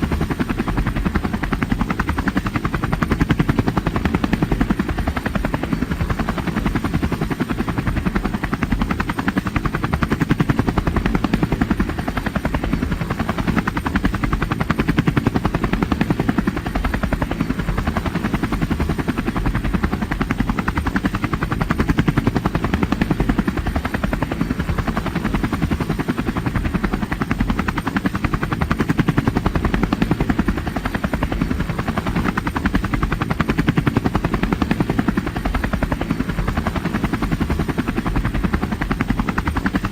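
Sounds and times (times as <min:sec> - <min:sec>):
helicopter engine noise: 0:00.0 - 0:39.9
helicopter rotor chop: 0:00.0 - 0:39.9.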